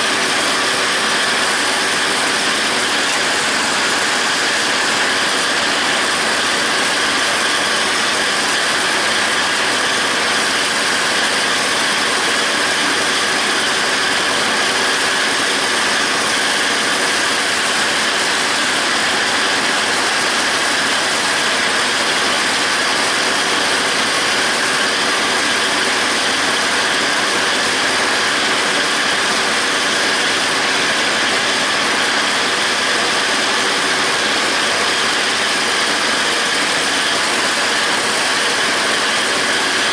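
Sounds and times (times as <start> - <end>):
tractor engine and mower running: 0.0 - 39.9.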